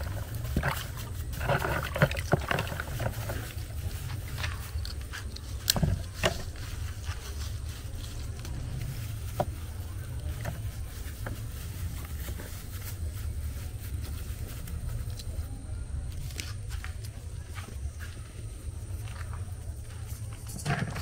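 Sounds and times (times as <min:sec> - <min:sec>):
steady low rumble: 0:00.0 - 0:21.0
wet handling noises: 0:00.0 - 0:21.0.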